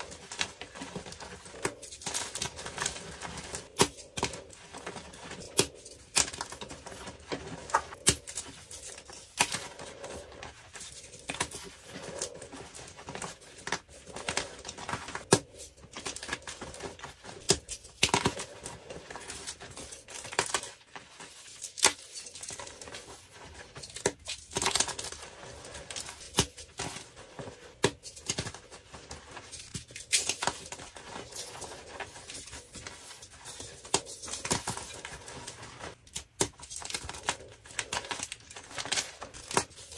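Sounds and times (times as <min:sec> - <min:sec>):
crumbled chalk crackling: 0:00.0 - 0:39.9.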